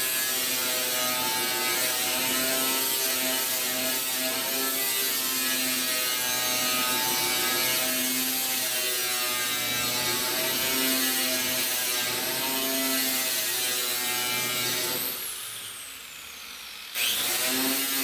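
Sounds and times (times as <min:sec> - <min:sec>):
power tool grinding steel: 0:00.0 - 0:18.0.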